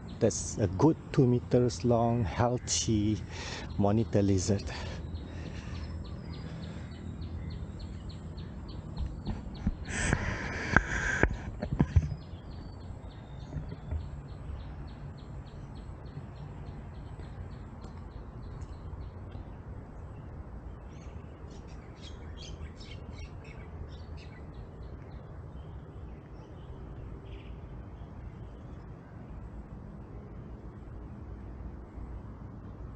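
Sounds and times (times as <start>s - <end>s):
small birds chirping: 0.0s - 30.2s.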